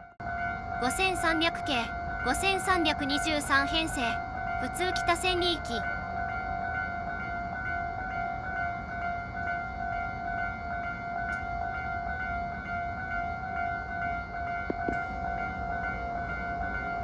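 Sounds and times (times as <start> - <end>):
level-crossing warning bell: 0.0 - 17.0
low train rumble: 0.0 - 17.0.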